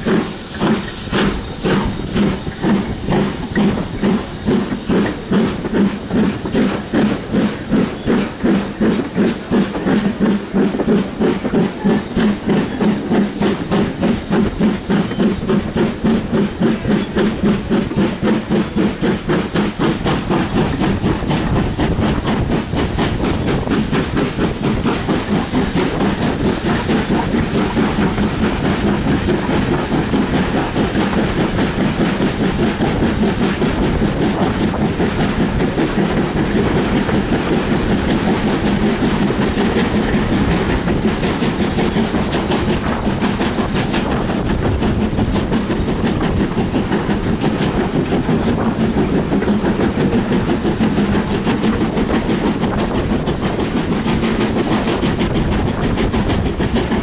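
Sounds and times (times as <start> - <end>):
steam locomotive chuffing: 0.0 - 57.0
train wheels clattering: 0.0 - 57.0.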